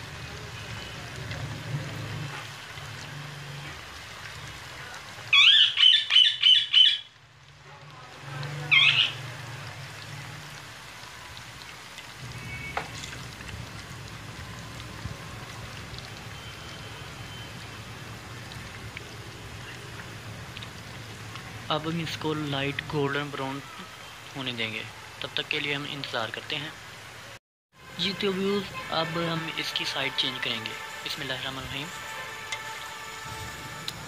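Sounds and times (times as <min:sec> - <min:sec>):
food sizzling in hot oil: 0:00.0 - 0:26.1, 0:27.8 - 0:34.0.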